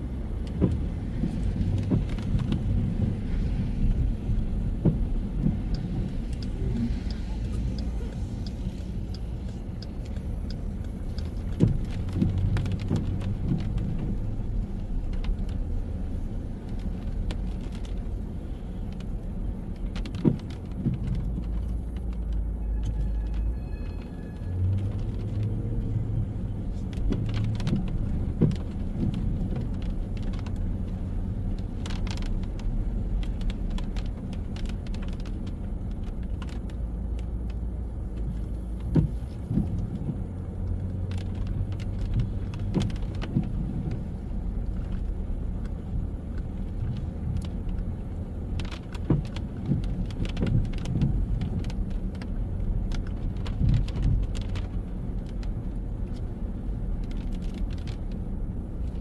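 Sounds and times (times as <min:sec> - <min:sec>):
cars passing on wet road: 0:00.0 - 0:59.0
sharp clicks and knocks: 0:04.6 - 0:16.0, 0:18.8 - 0:23.4, 0:24.7 - 0:58.3.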